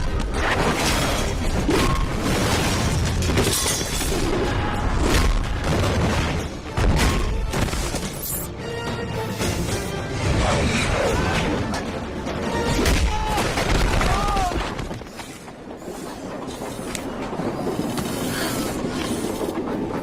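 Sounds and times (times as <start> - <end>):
action film score: 0.0 - 20.0.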